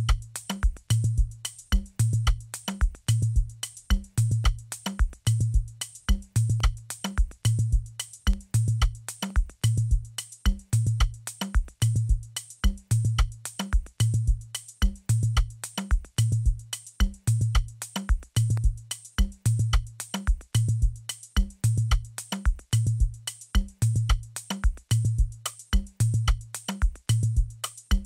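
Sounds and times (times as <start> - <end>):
hi-hat and percussion hits: 0.0 - 28.0
low kick drum: 0.0 - 28.0.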